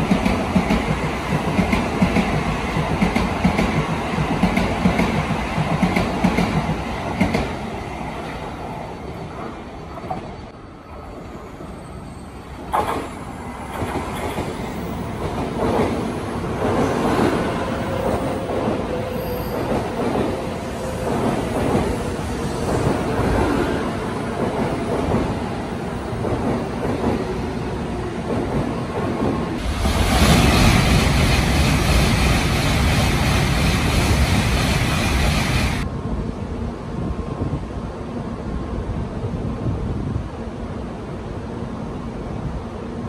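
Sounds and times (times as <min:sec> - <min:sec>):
train pulling in rushing: 0:00.0 - 0:43.0
train running past: 0:00.0 - 0:43.0.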